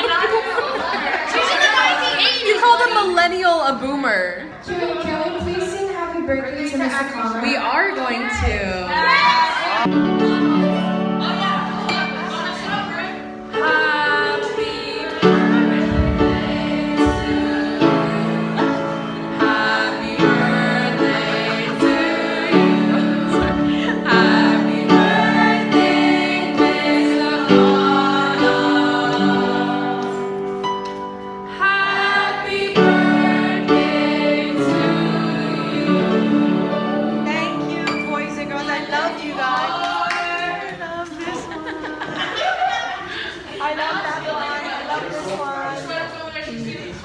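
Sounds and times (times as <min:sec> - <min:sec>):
children's choir singing: 0:00.0 - 0:06.2, 0:07.7 - 0:46.2.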